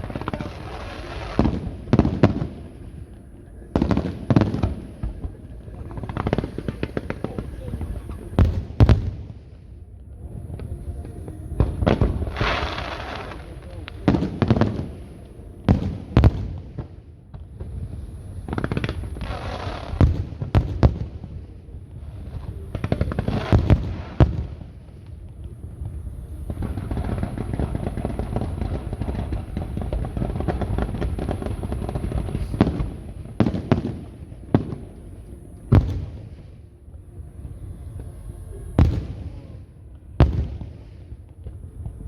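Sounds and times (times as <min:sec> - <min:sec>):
firework booms: 0:00.0 - 0:09.6, 0:10.4 - 0:34.9, 0:35.7 - 0:36.6, 0:38.8 - 0:42.0
dense firework crackling: 0:00.0 - 0:42.0.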